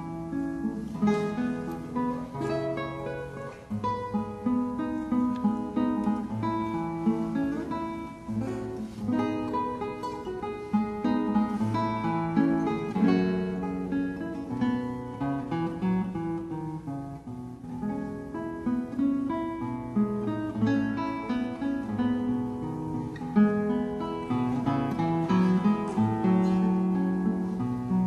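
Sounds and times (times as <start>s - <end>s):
acoustic guitar music: 0.0s - 28.0s.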